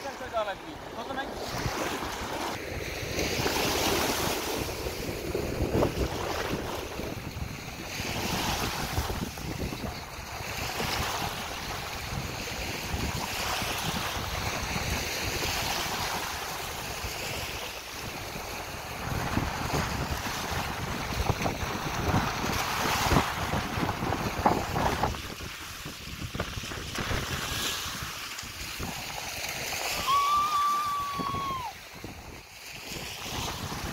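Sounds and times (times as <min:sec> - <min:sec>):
sea water lapping: 0:00.0 - 0:33.9
water splashes: 0:00.0 - 0:33.9
wind buffeting microphone: 0:00.3 - 0:33.9.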